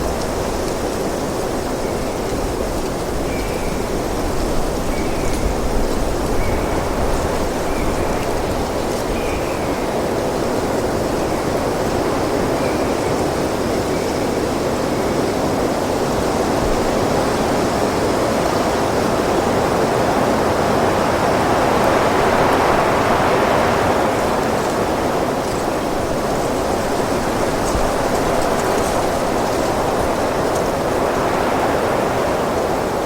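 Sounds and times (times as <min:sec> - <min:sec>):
wind blowing: 0:00.0 - 0:33.0.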